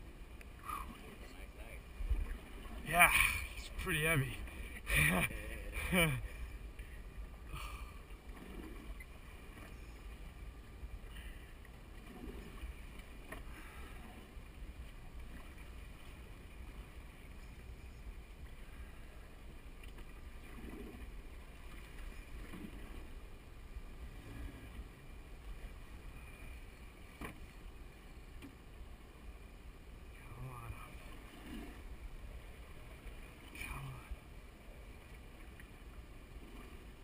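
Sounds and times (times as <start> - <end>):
water lapping against boat hull: 0.0 - 29.4, 30.1 - 37.0.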